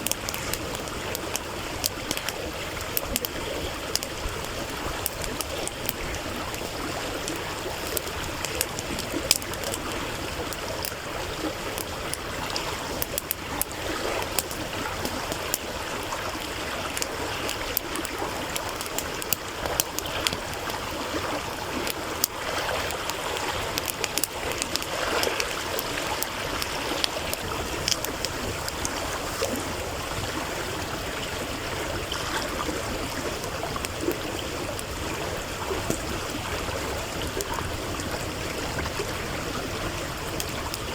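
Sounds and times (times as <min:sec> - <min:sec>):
firewood crackling and popping: 0:00.0 - 0:40.9
stream babbling: 0:00.0 - 0:40.9.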